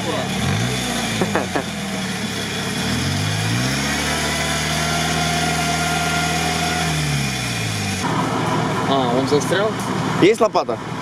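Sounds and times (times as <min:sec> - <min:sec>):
truck engine at high revs: 0:00.0 - 0:11.0.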